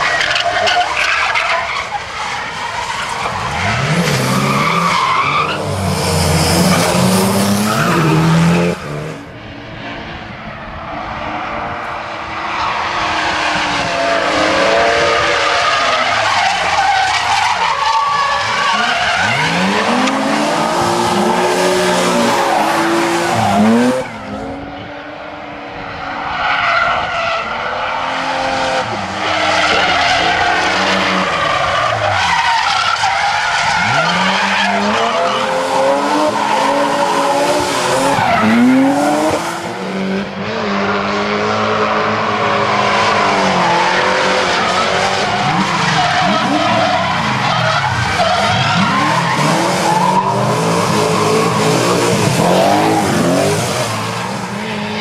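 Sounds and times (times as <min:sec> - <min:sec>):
tyres squealing and skidding: 0:00.0 - 0:09.3, 0:10.7 - 0:55.0
car engines revving hard: 0:00.0 - 0:55.0.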